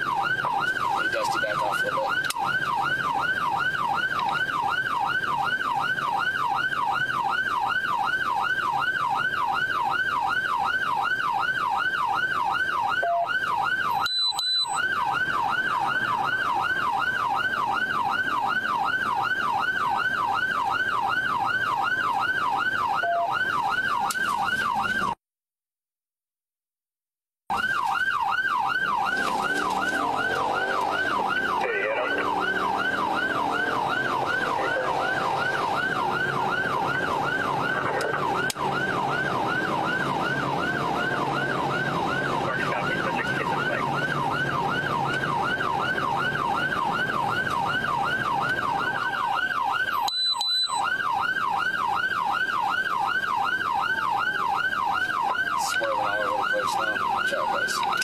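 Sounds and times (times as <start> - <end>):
car engine and tyre noise: 0.0 - 25.1, 27.5 - 58.0
police siren yelp: 0.0 - 25.2, 27.5 - 58.0.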